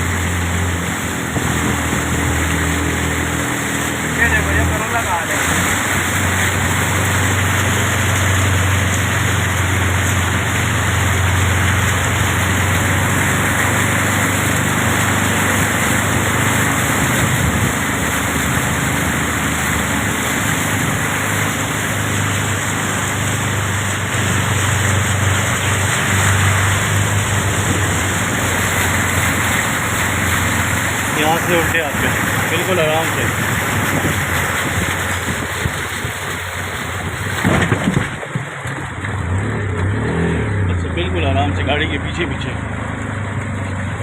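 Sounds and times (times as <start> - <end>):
vehicle engine droning: 0.0 - 44.0
water hiss from wet road: 0.0 - 44.0.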